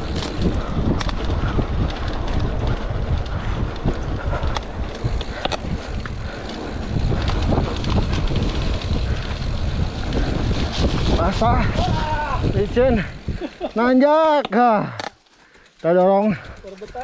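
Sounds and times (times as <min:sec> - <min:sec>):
wind buffeting microphone: 0:00.0 - 0:14.0
mountain bike clattering on trail: 0:00.0 - 0:17.0.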